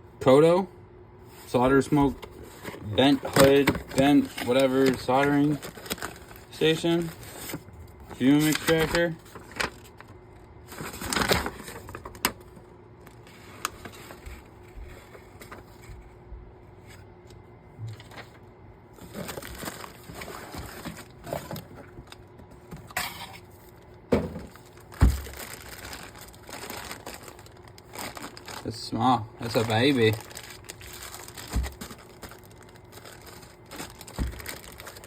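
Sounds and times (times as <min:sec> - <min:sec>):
packaging rustling: 0:01.5 - 0:16.1, 0:17.9 - 0:18.4, 0:19.0 - 0:35.0.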